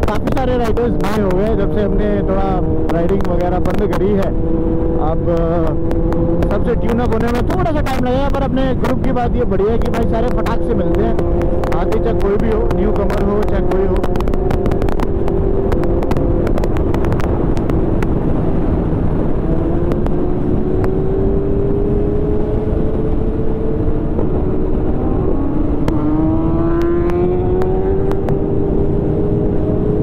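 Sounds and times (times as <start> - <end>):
motorcycle engine at highway speed: 0.0 - 30.0
wind rush: 0.0 - 30.0.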